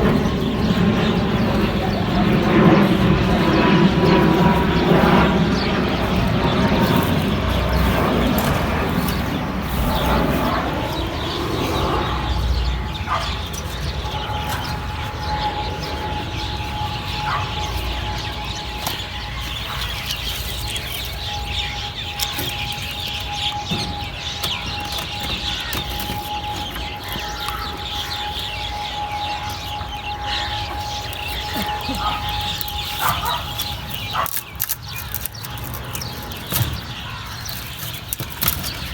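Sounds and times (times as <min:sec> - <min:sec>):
chickens peeping: 0:00.0 - 0:38.9.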